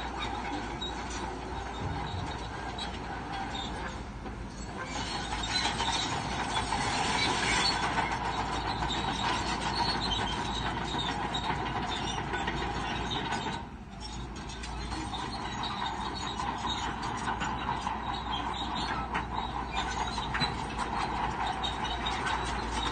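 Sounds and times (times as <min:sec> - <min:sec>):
bulldozer engine running: 0:00.0 - 0:22.9
steel tracks clanking and squealing: 0:00.0 - 0:22.9.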